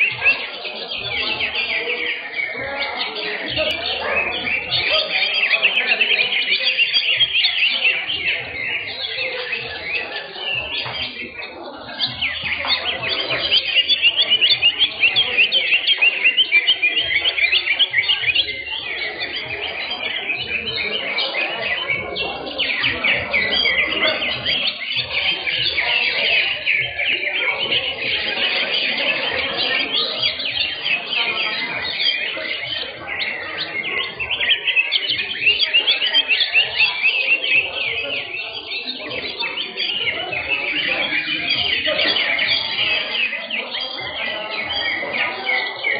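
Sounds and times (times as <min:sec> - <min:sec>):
many songbirds chirping: 0:00.0 - 0:45.9.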